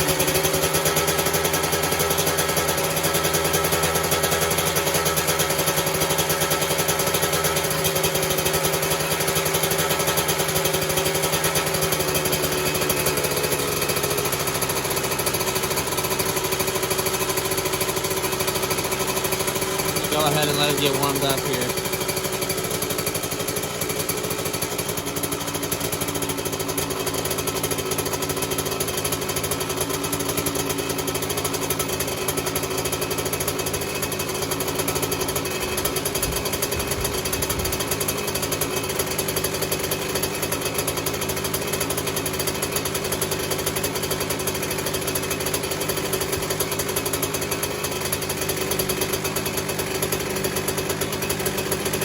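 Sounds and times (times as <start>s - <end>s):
two-stroke engine idling: 0.0s - 52.0s.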